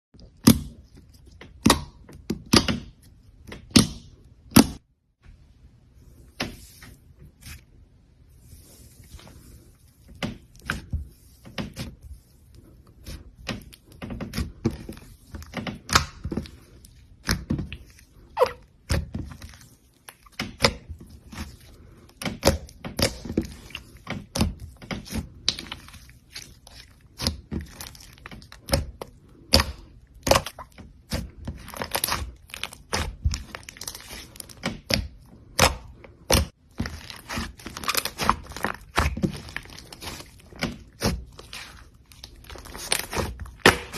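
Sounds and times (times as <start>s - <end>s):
slime squishing: 6.0s - 43.9s.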